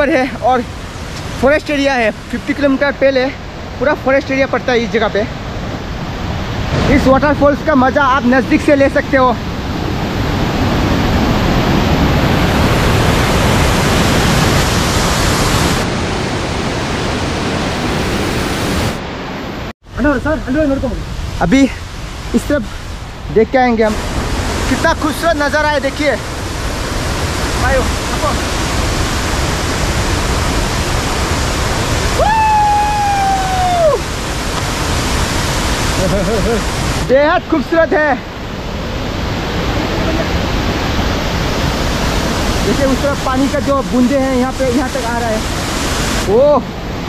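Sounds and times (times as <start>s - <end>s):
waterfall roaring over rocks: 0.0s - 47.0s.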